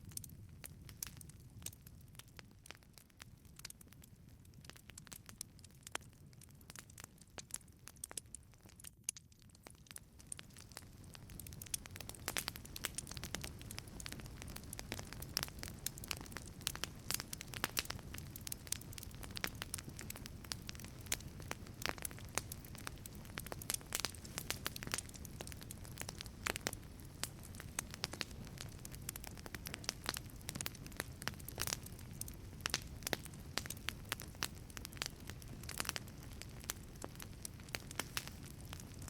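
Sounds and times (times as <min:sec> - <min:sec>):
low rumble of flame: 0:00.0 - 0:39.0
wood fire crackling and popping: 0:00.0 - 0:39.0.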